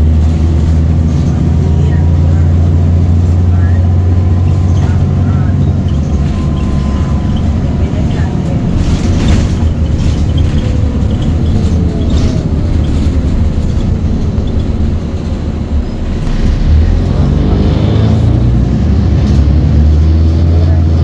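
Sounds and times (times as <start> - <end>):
bus engine humming: 0.0 - 21.0
drivetrain whine: 0.0 - 21.0.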